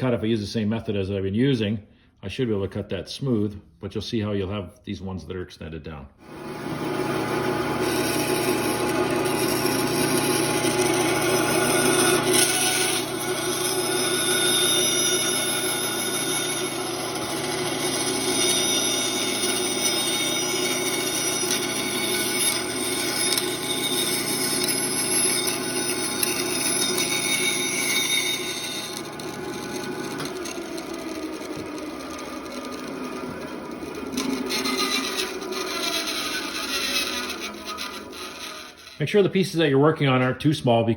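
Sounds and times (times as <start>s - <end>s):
bandsaw cutting wood: 6.2s - 39.2s.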